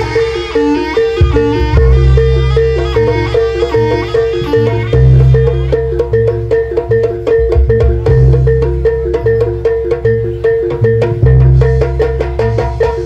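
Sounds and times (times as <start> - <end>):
metallophones playing fast melody: 0.0 - 13.0.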